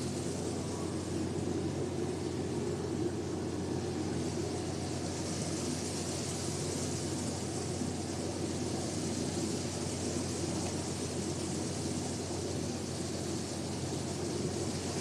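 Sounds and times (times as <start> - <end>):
machinery drone: 0.0 - 15.0.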